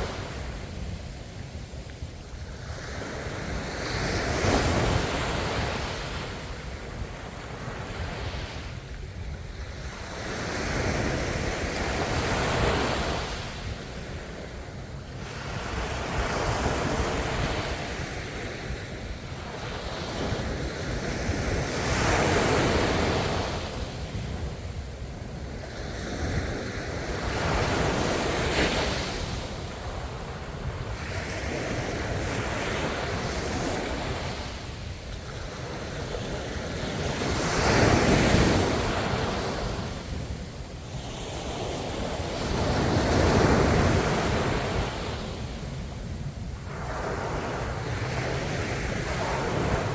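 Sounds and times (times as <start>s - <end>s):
ocean waves breaking on shore: 0.0s - 49.9s.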